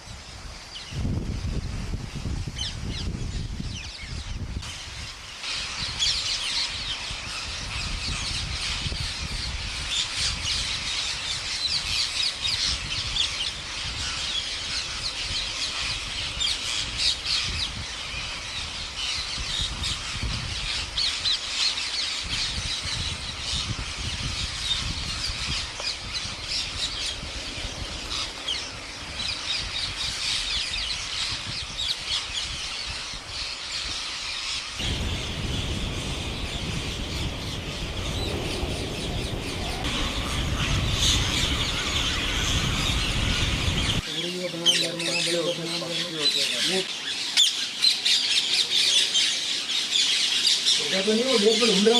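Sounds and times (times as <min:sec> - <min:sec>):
parakeets screeching: 0:03.7 - 0:51.9.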